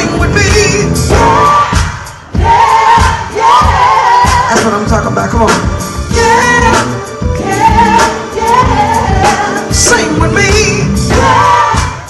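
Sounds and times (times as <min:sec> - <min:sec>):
soul band playing: 0:00.0 - 0:12.0.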